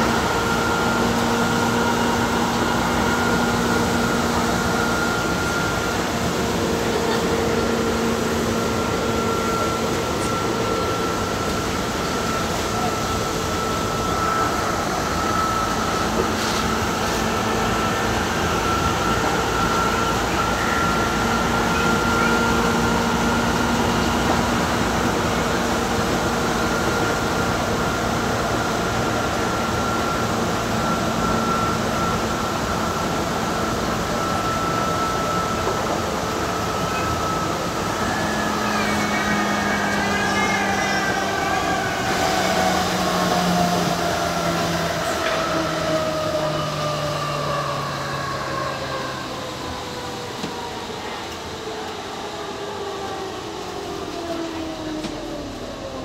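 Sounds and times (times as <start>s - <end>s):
electric traction motor whine: 0.0s - 56.0s
train wheels on track: 0.0s - 56.0s.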